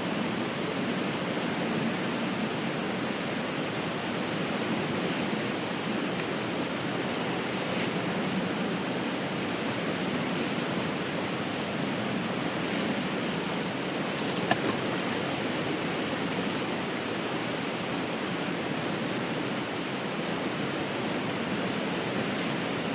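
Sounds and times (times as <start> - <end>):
river rushing: 0.0 - 22.9.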